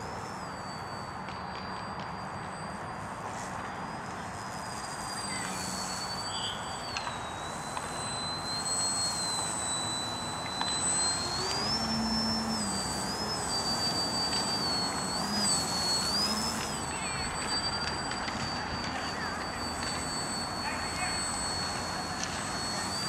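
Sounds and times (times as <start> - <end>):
model plane motor whining: 0.0 - 23.0.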